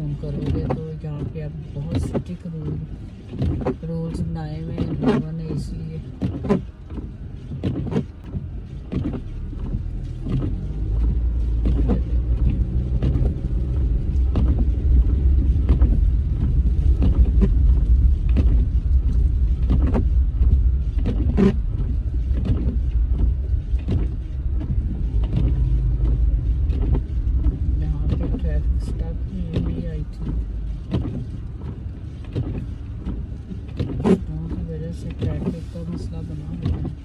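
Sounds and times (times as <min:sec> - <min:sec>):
car tyres and engine rumble: 0:00.0 - 0:37.0.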